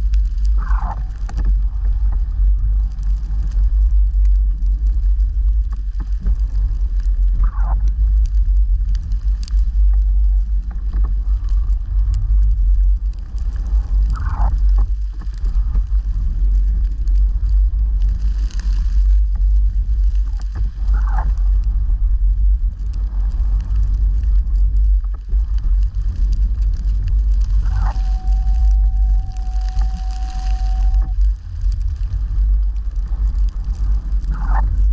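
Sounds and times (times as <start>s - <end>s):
steady whine: 0.0s - 34.9s
vehicle engine rumbling: 0.0s - 34.9s.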